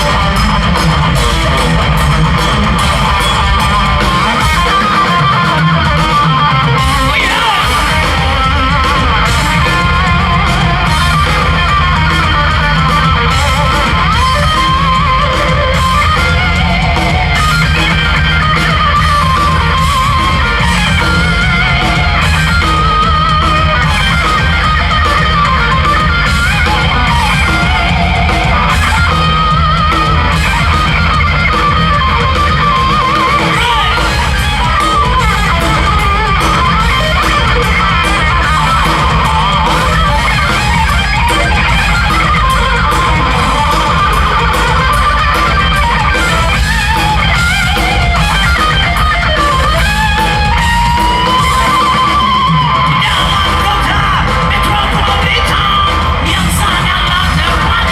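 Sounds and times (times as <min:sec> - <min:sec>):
bass guitar: 0:00.0 - 0:57.9
distorted electric guitar lead: 0:00.0 - 0:57.9
pounding drums: 0:00.0 - 0:57.9.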